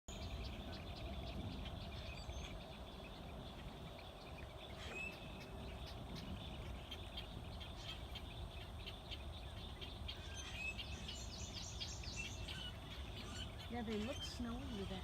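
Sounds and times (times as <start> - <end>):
birds chirping and calling: 0.1 - 15.0.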